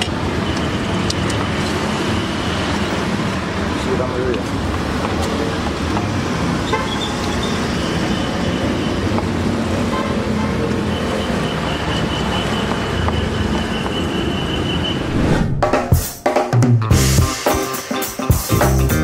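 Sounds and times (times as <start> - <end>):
road traffic: 0.0 - 15.7.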